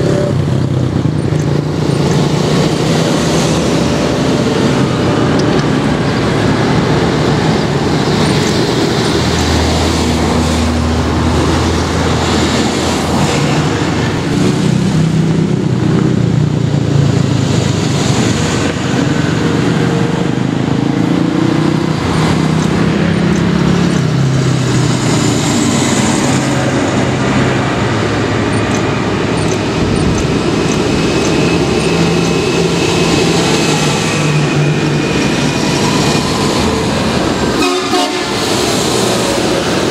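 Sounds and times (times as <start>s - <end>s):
tractors and cars driving past: 0.0s - 39.9s.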